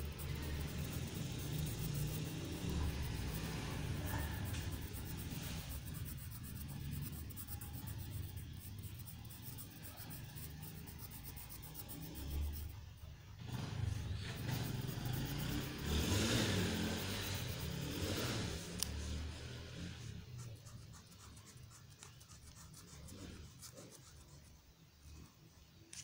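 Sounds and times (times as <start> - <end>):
marker rubbing on paper: 0.0 - 19.1, 20.2 - 24.6
low background noise: 0.0 - 26.0.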